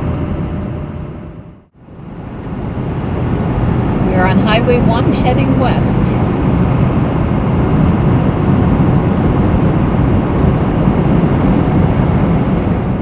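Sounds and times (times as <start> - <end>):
vehicle driving at highway speed: 0.0 - 13.0.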